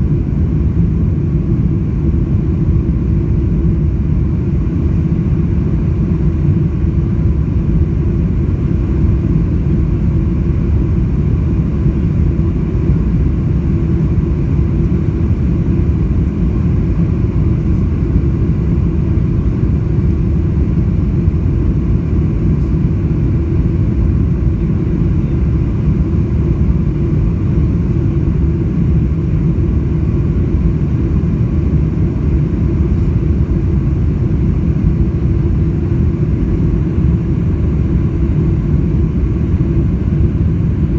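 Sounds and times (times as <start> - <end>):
aircraft cabin engine rumble: 0.0 - 40.9
faint steady hum: 0.0 - 40.9.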